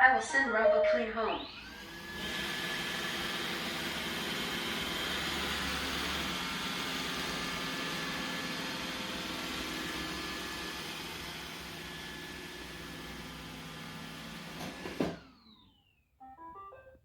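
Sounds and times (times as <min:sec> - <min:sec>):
robot vacuum whirring: 0:00.8 - 0:15.8.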